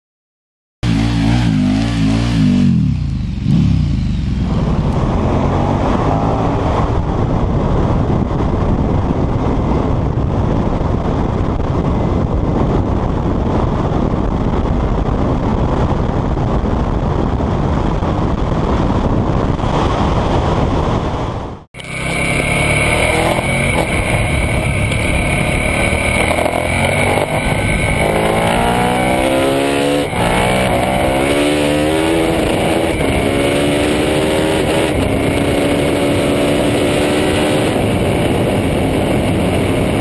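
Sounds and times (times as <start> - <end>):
motorcycle engine revving: 0.8 - 40.0.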